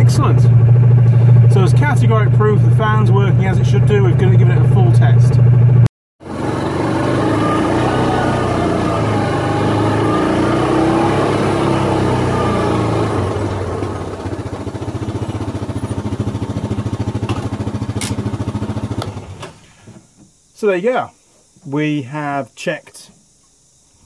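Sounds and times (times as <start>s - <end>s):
engine running under load: 0.0s - 20.4s.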